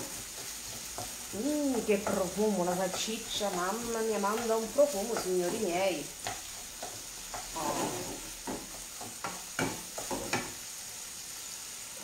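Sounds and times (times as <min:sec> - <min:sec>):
wooden spatula scraping a pan: 0:00.0 - 0:10.8
sausage and onion sizzling: 0:00.0 - 0:12.0.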